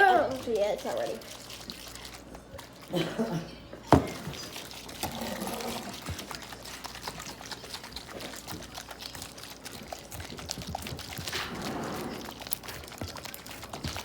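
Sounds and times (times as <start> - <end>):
slime sloshing in container: 0.0 - 3.0, 3.9 - 14.0.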